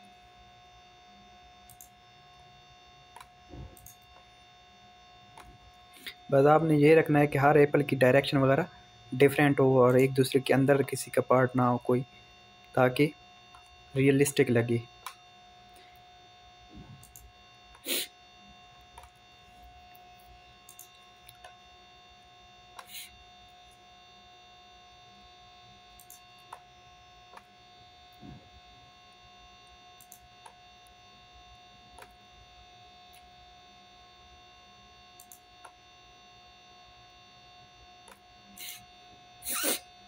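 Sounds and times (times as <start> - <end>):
electrical hum with whine: 0.0 - 40.0.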